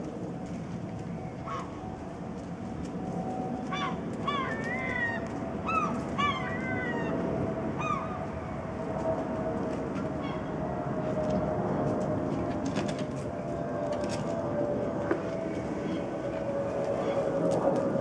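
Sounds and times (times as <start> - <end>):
steady rumble: 0.0 - 18.0.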